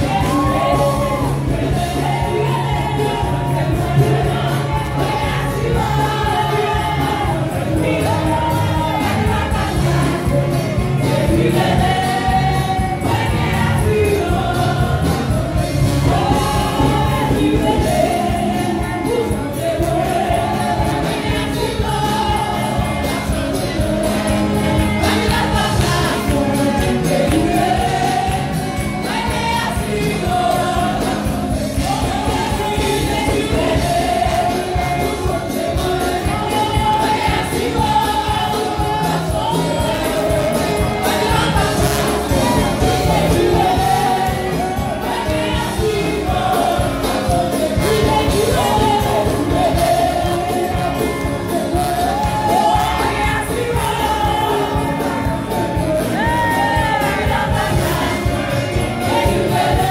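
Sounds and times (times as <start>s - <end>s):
congregation singing: 0.0s - 59.9s
music with driving beat: 0.0s - 59.9s.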